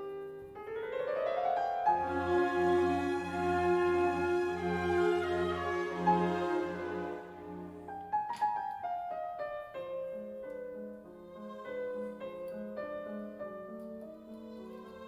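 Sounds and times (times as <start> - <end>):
slow piano and strings music: 0.0 - 15.0.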